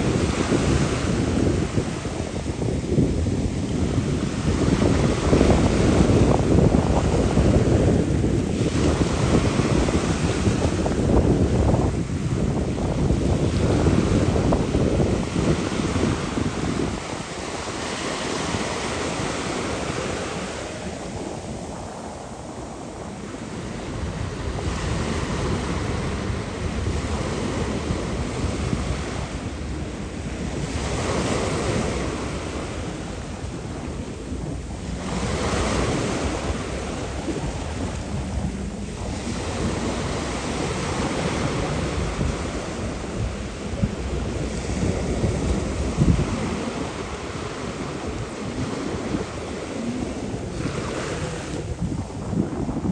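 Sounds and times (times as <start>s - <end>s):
rushing water: 0.0s - 52.9s
wind buffeting microphone: 0.0s - 52.9s.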